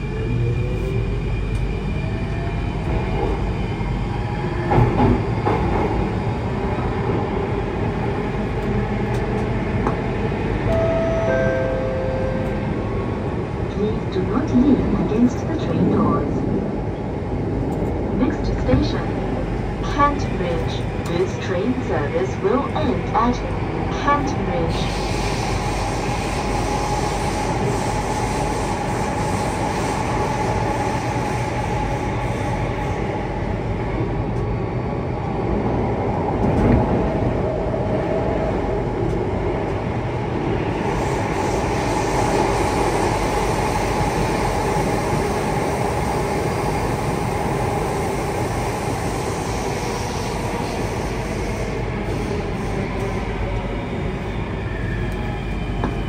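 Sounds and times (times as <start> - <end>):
train wheels rumbling on rail: 0.0 - 11.4, 12.2 - 56.0.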